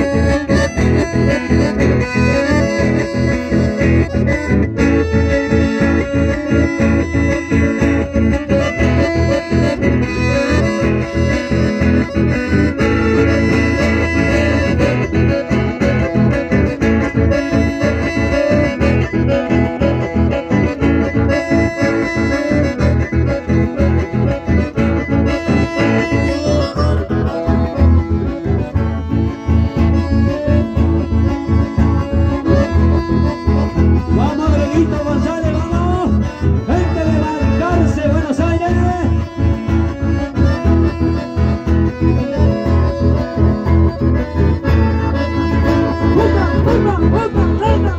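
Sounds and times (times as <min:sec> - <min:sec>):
accordions playing dance music: 0:00.0 - 0:47.9
guitar playing: 0:00.0 - 0:47.9.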